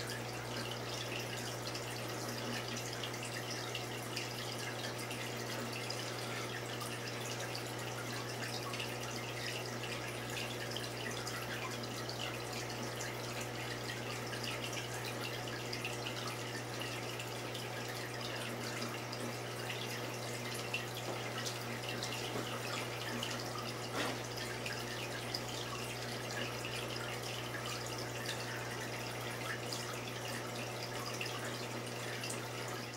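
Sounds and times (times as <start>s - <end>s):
aquarium water trickling: 0.0s - 32.9s.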